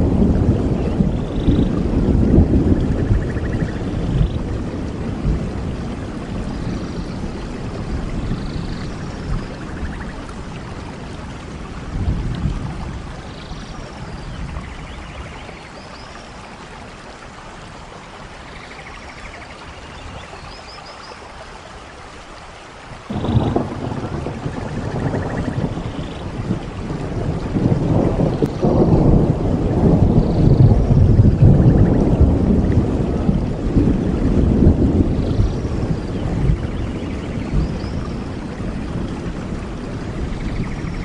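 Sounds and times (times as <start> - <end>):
thunder rumbling: 0.0 - 15.5, 23.1 - 41.0
steady rain: 0.0 - 41.0.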